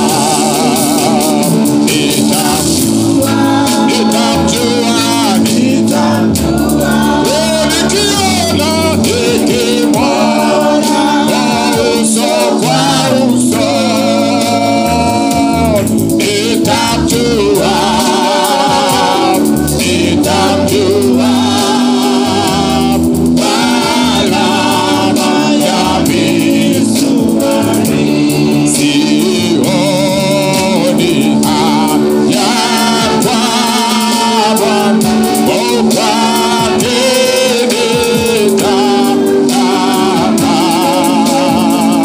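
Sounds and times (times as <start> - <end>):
man singing gospel into microphone: 0.0 - 42.0
sustained keyboard chords: 0.0 - 42.0
voices singing along: 0.0 - 42.0.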